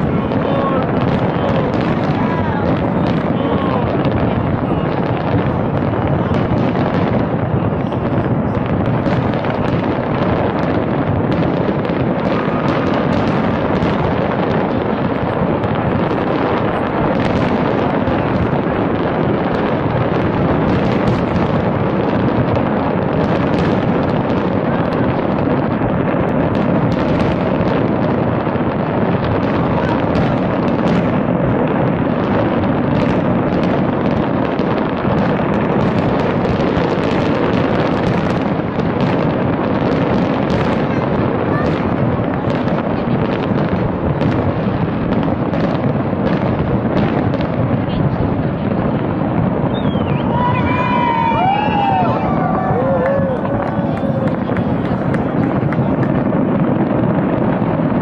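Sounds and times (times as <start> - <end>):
fireworks bursting and crackling: 0.0 - 58.0
sharp fireworks pops: 0.0 - 58.0.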